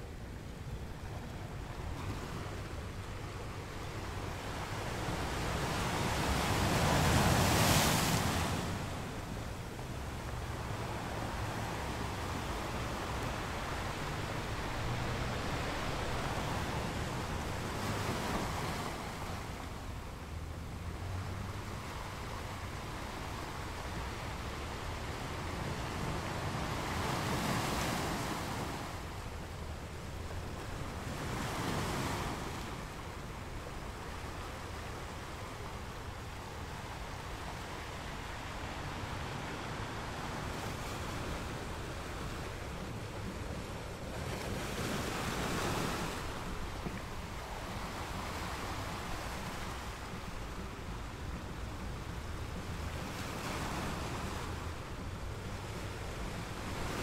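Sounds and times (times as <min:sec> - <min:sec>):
ocean waves breaking: 0:00.2 - 0:57.0.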